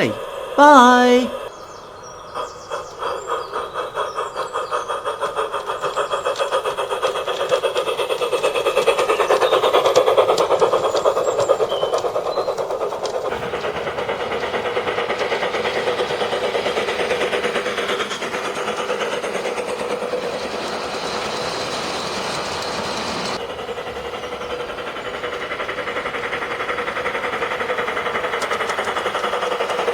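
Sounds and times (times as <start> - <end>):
model steam locomotive chuffing: 0.0 - 29.9.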